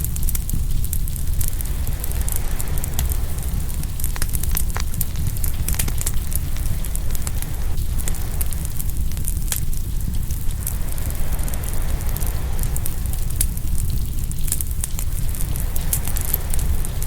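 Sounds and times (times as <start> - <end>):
wood fire crackling and popping: 0.0 - 17.0
ocean waves: 0.6 - 17.0.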